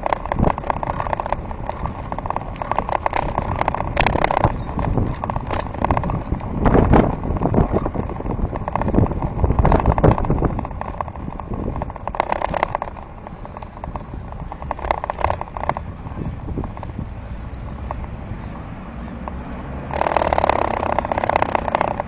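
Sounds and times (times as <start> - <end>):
rapid clicking and rattling bike: 0.0 - 22.0
tyres on wet road: 0.0 - 22.0
wind rumble on microphone: 0.0 - 22.0.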